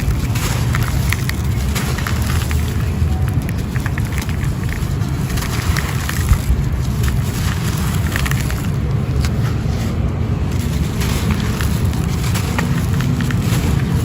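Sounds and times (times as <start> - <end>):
small gritty crackles: 0.0 - 14.0
steady low rumble: 0.0 - 14.0
stone chunks crumbling and crunching: 0.0 - 14.0.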